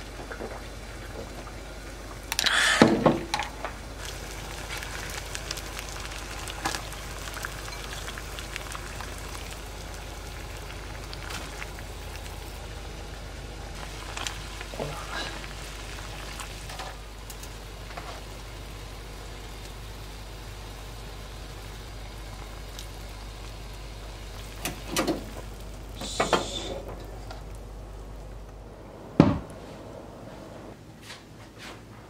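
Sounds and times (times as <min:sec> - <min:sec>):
water boiling in saucepan: 0:00.0 - 0:30.4.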